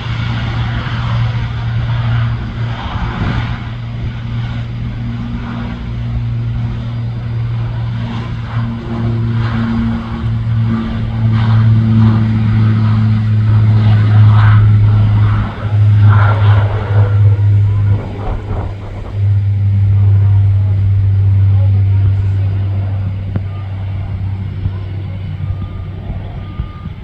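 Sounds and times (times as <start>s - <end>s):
aircraft engine drone: 0.0s - 27.0s.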